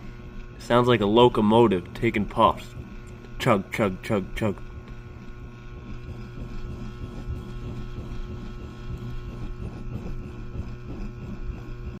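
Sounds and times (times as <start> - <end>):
steady low hum: 0.0 - 12.0
wood stove fire chugging: 0.0 - 12.0.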